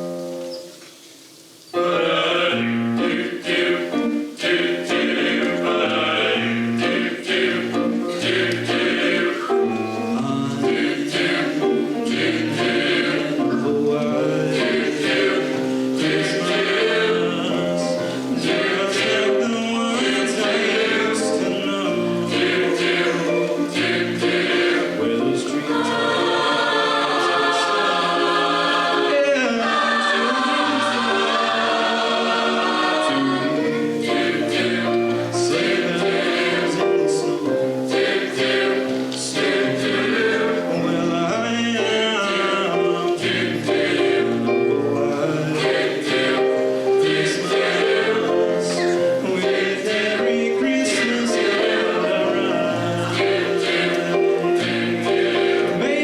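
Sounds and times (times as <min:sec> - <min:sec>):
choir singing: 0:01.7 - 0:56.0.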